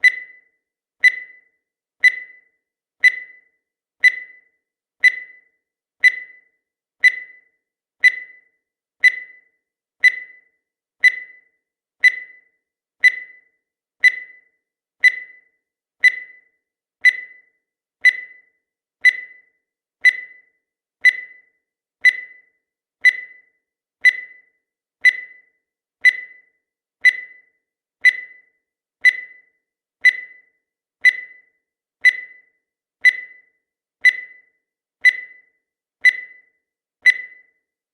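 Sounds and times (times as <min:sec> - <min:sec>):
short high-pitched timer beeps: 0:00.0 - 0:37.7.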